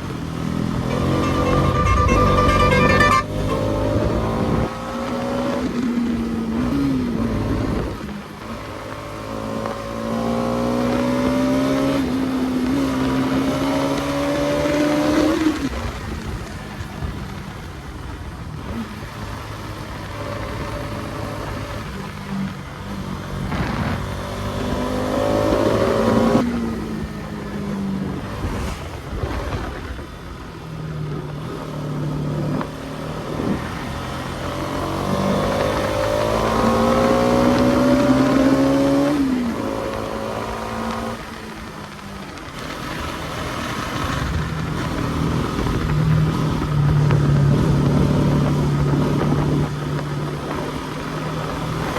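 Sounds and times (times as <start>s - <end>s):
motorcycle engine revving: 0.0s - 16.4s, 18.7s - 51.9s.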